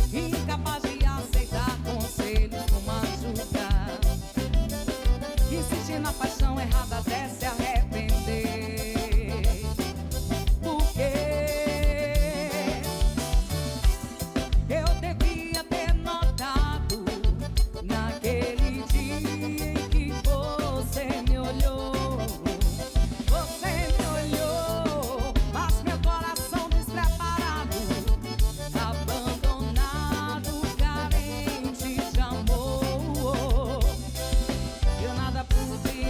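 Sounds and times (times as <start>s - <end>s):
drum beat: 0.0s - 36.0s
live band music: 0.0s - 36.0s.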